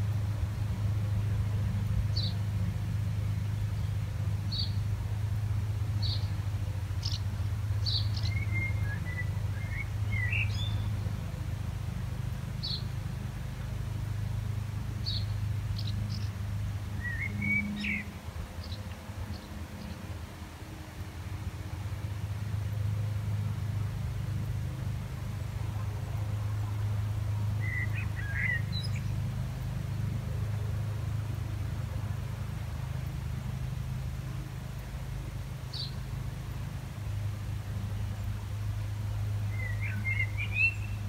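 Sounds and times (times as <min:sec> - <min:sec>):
steady low hum: 0:00.0 - 0:41.0
small birds chirping: 0:01.0 - 0:20.9, 0:21.8 - 0:41.0.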